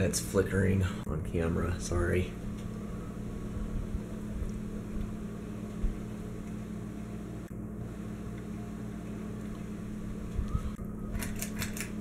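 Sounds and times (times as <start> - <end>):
ceiling fan motor humming: 0.0 - 12.0.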